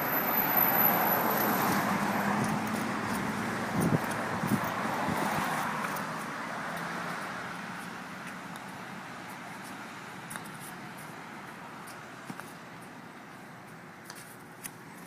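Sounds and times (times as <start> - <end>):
passing vehicle road noise: 0.0 - 15.0.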